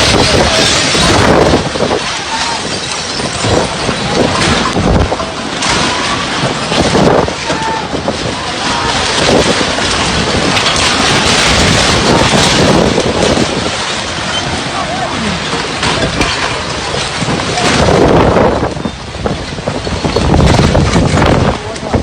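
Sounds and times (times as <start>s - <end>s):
storm wind buffeting microphone: 0.0s - 22.0s.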